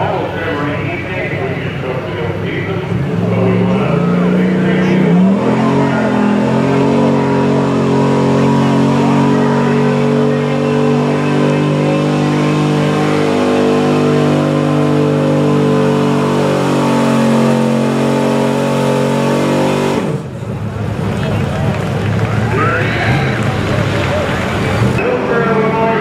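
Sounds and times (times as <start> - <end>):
truck engine at high revs: 0.0 - 26.0.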